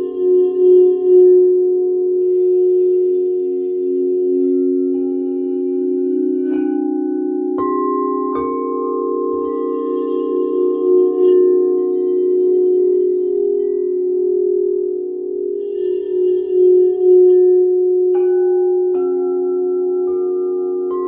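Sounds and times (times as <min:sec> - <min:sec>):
singing bowls ringing: 0:00.0 - 0:21.0.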